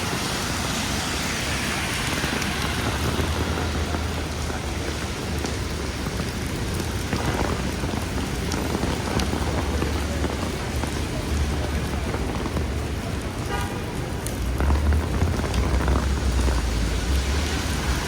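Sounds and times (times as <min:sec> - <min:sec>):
heavy rain falling: 0:00.0 - 0:18.0
raindrop ticks: 0:00.0 - 0:18.0.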